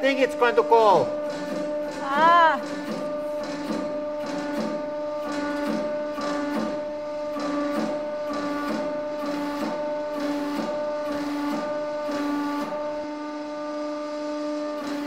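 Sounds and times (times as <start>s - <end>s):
hydraulic press pump humming: 0.0s - 15.0s.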